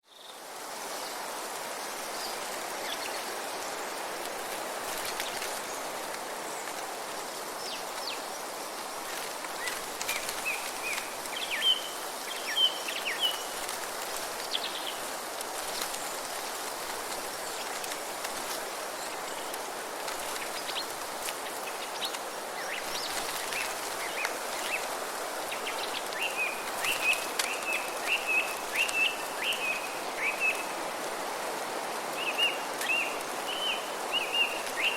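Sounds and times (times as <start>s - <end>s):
wind through trees: 0.0s - 34.9s.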